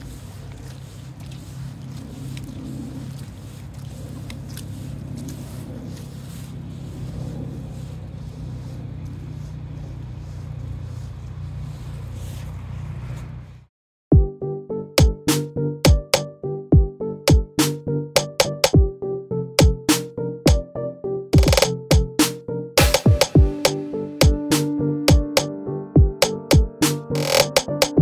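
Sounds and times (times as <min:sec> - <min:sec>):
low engine drone: 0:00.0 - 0:13.2, 0:14.2 - 0:28.0.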